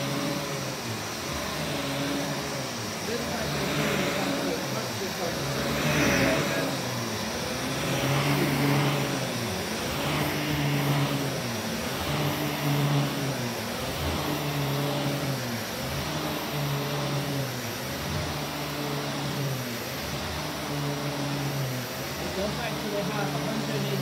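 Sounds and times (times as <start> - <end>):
upright vacuum cleaner on carpet: 0.0 - 24.0.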